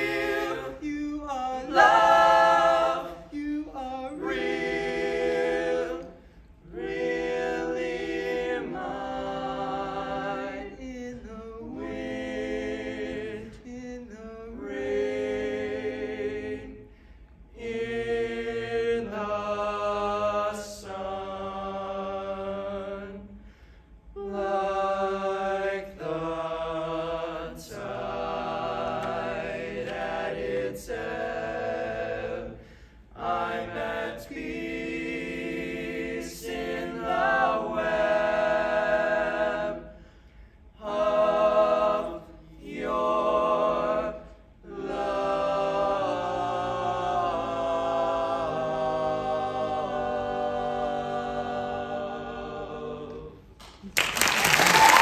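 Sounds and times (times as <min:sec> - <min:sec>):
a cappella close harmony singing: 0:00.0 - 0:23.5, 0:24.2 - 0:55.0.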